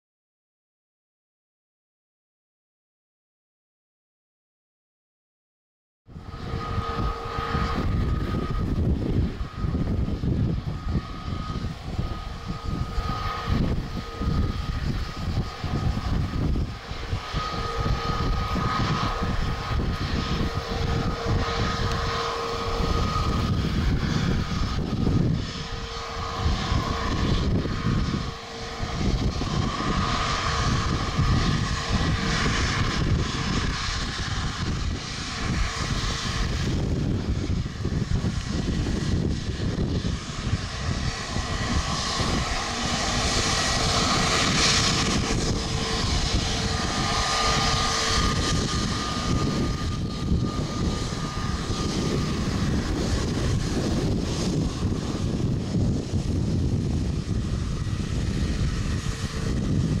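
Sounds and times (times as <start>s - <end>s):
jet engine whine: 6.1s - 60.0s
low fluctuating rumble: 6.1s - 60.0s.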